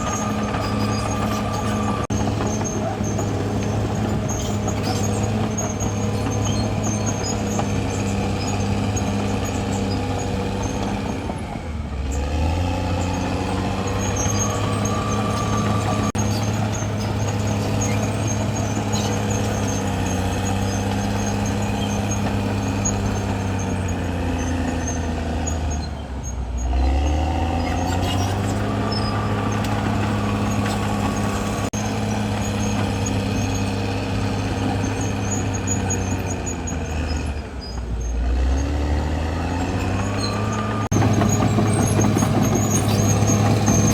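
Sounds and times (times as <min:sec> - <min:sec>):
faint high squeaking: 0:00.0 - 0:11.1, 0:13.0 - 0:38.7, 0:39.5 - 0:43.9
bulldozer diesel engine under load: 0:00.0 - 0:43.9.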